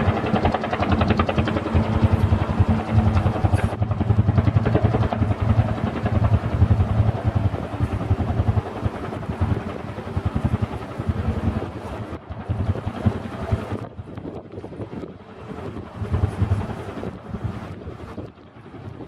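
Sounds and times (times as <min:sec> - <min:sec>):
helicopter rotor thudding: 0:00.0 - 0:18.1
helicopter turbine noise: 0:00.0 - 0:19.0.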